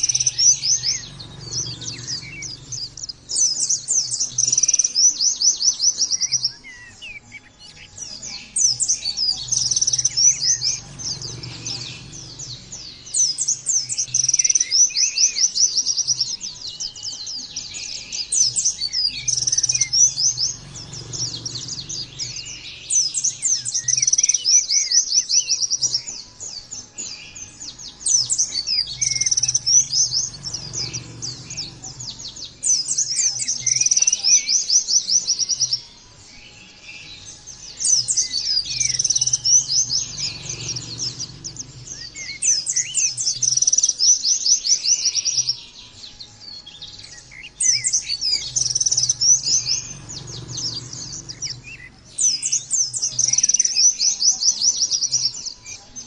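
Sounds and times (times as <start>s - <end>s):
bird twittering: 0.0s - 36.4s, 37.0s - 56.0s.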